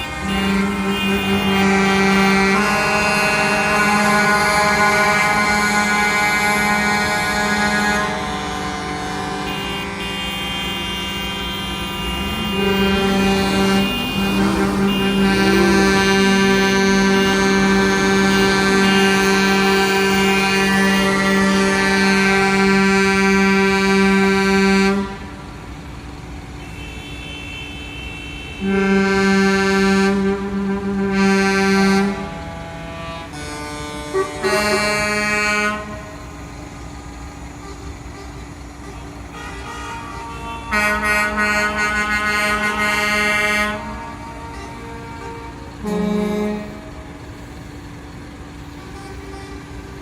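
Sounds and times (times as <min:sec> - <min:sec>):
truck air horn blasts: 0:00.0 - 0:25.7, 0:26.5 - 0:36.7, 0:37.5 - 0:50.0.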